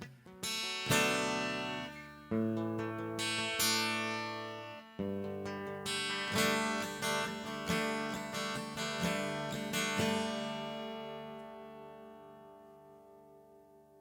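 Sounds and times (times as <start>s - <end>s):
acoustic guitar strumming: 0.0s - 13.4s.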